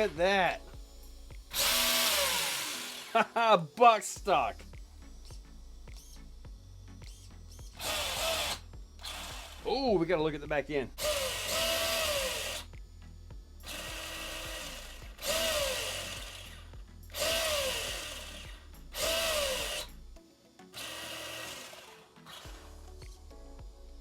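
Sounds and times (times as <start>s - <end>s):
electric motor whining in bursts: 0.0s - 13.0s, 13.6s - 22.6s.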